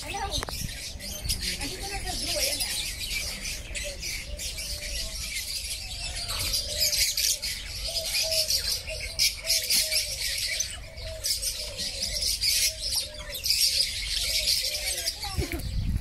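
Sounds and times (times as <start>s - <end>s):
birds twittering: 0.0s - 16.0s.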